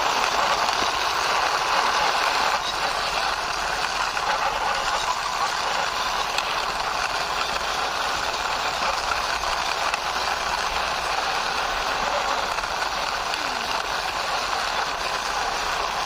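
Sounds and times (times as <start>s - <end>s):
toy plastic wheels rolling and rattling: 0.0s - 16.0s.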